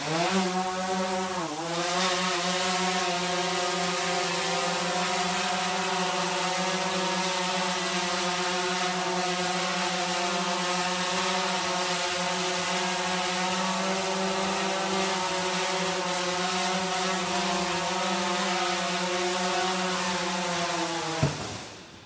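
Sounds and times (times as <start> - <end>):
quadcopter hovering buzz: 0.0 - 22.0.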